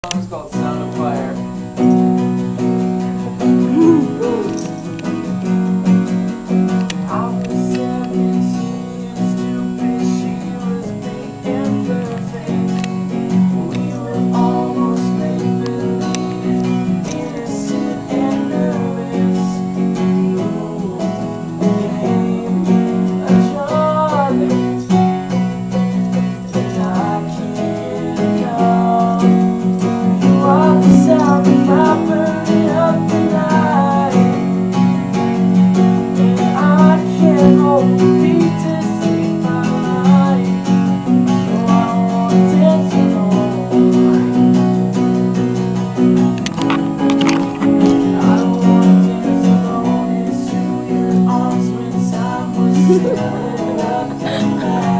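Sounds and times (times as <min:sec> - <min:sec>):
guitar strumming chords: 0:00.0 - 0:54.9
person singing: 0:03.2 - 0:05.2, 0:06.8 - 0:34.7, 0:36.2 - 0:44.9, 0:46.0 - 0:54.9.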